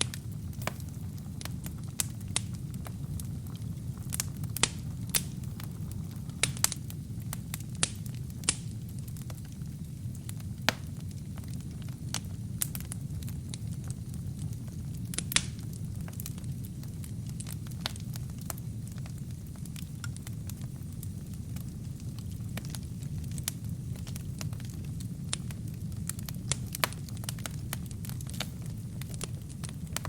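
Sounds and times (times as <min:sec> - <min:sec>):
low rumble of flames: 0:00.0 - 0:30.0
wood fire crackling and popping: 0:00.0 - 0:30.0.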